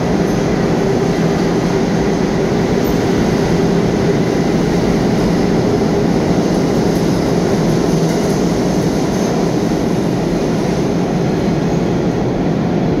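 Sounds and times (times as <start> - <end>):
subway train rumbling on rails: 0.0 - 13.0.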